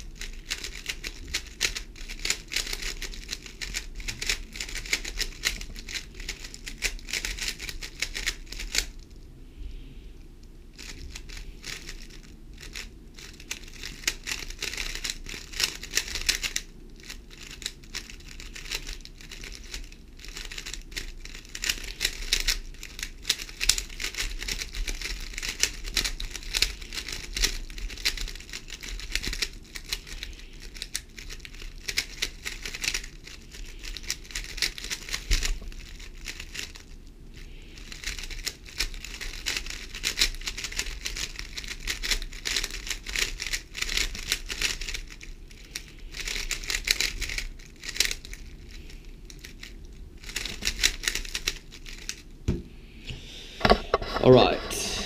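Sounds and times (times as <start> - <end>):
puzzle cube plastic clicks: 0.2 - 9.0, 10.8 - 36.9, 37.8 - 48.5, 49.3 - 52.2.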